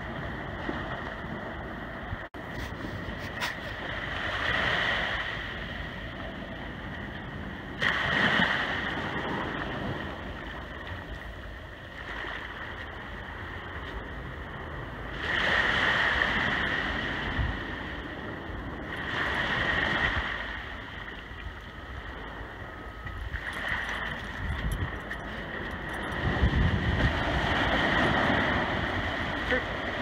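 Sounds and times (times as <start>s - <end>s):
small ocean waves breaking: 0.0s - 30.0s.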